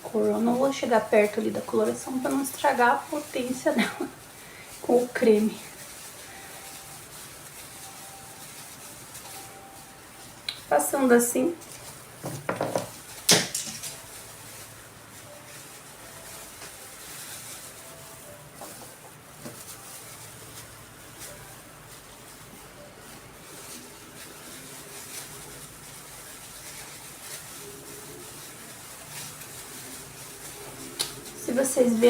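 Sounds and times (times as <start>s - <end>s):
hair rustling: 0.0s - 32.0s
soft brush strokes: 0.0s - 32.0s.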